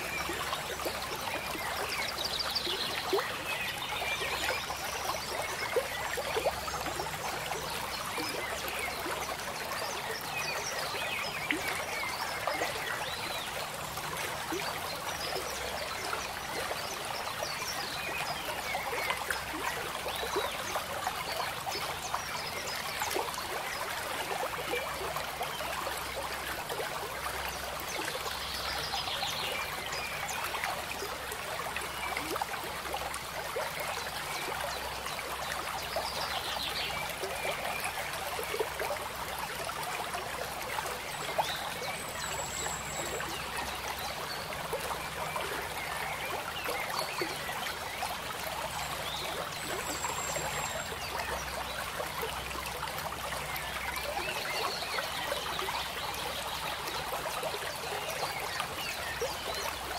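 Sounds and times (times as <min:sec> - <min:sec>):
trickling water: 0:00.0 - 0:59.9.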